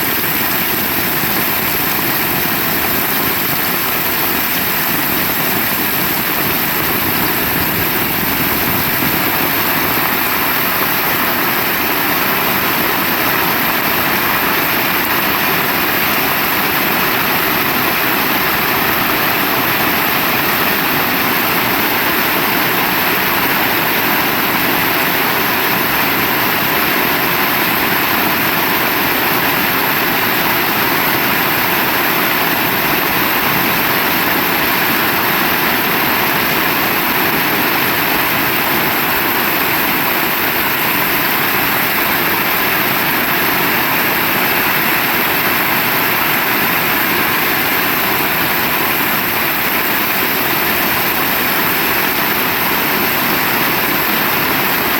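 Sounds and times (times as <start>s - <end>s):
heavy rain falling: 0.2s - 54.9s.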